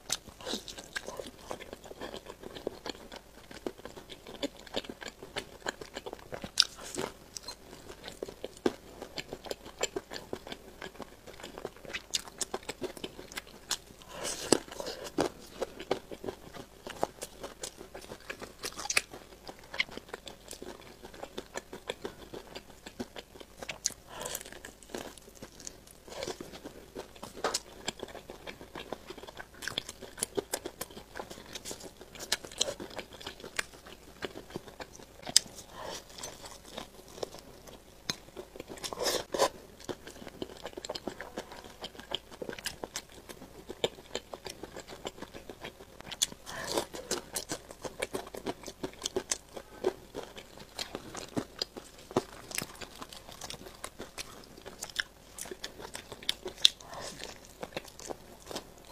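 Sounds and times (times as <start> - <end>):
crunchy chewing: 0.0 - 58.9.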